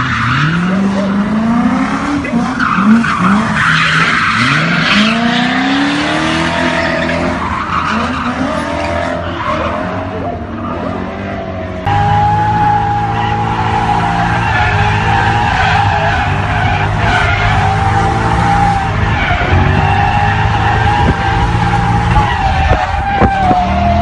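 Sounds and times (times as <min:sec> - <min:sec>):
car engine revving: 0:00.0 - 0:24.0
tyres squealing on tarmac: 0:02.1 - 0:24.0.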